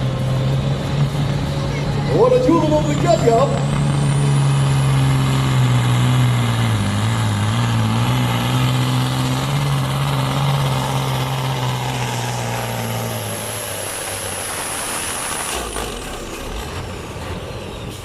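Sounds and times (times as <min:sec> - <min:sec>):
diesel truck engine at high revs: 0:00.0 - 0:18.0.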